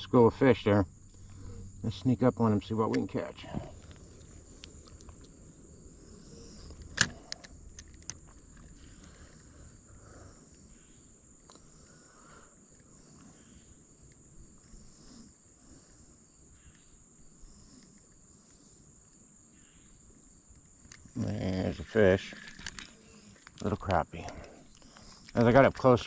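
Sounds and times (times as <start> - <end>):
faint low hum: 0.0 - 26.0
insects chirring: 0.0 - 26.0.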